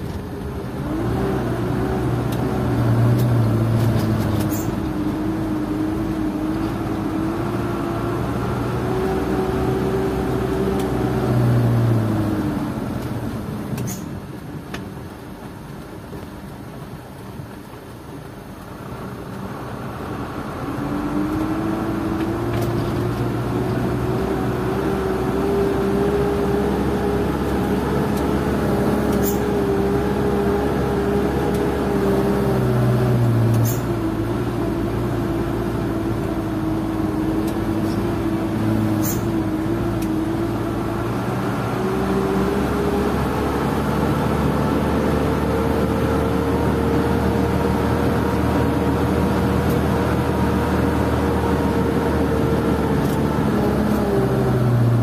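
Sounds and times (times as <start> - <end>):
truck diesel engine from inside cab: 0.0 - 55.0.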